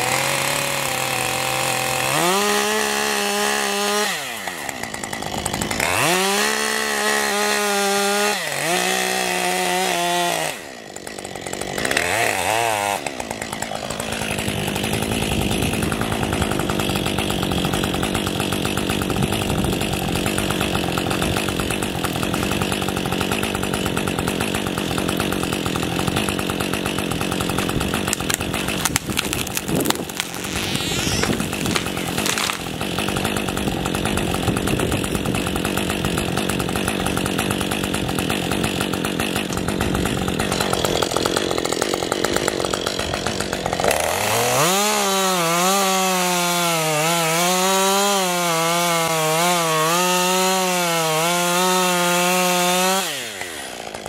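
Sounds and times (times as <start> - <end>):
chainsaw revving and idling: 0.0 - 54.0.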